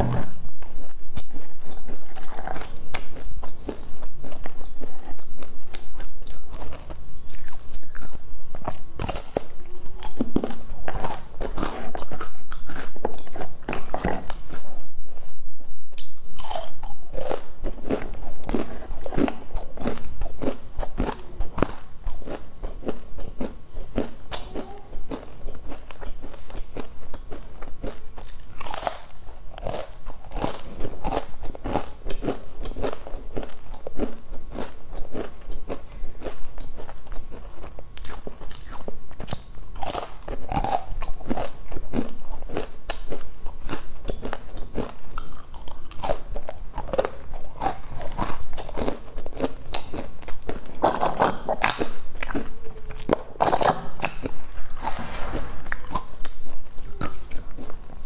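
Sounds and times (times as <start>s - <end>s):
crisp crunching and chewing: 0.0s - 58.0s.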